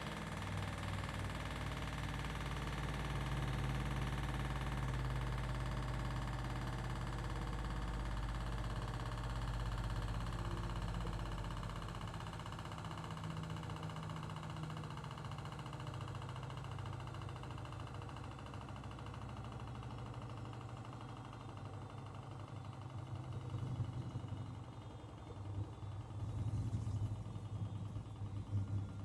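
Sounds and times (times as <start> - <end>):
washing machine spinning: 0.0 - 29.0.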